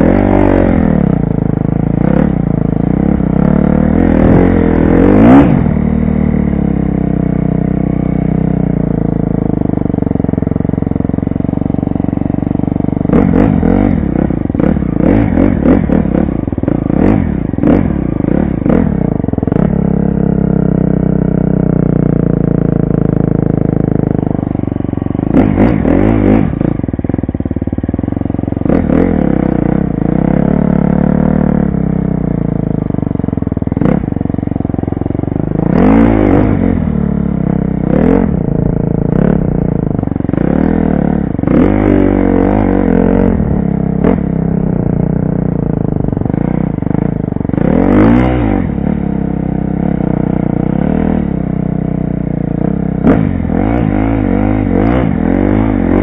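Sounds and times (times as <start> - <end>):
motocross bike engine revving: 0.0 - 51.5, 52.1 - 56.0.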